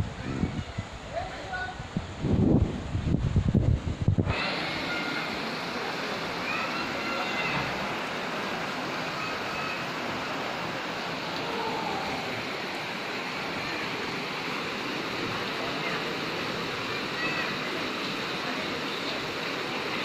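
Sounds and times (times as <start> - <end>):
floodwater rushing down a street: 0.0 - 20.0.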